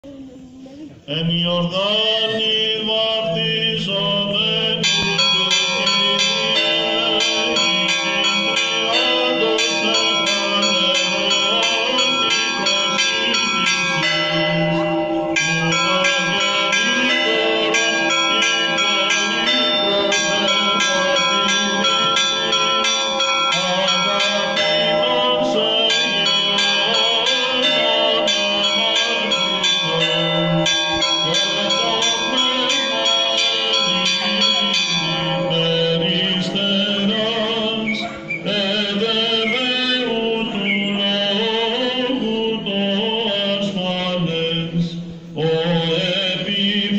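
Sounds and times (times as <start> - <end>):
church bells pealing: 3.3 - 44.7.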